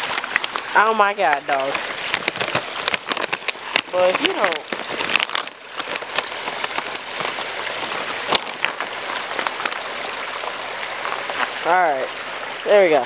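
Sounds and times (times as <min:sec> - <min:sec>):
water trickling over rocks: 0:00.0 - 0:13.0.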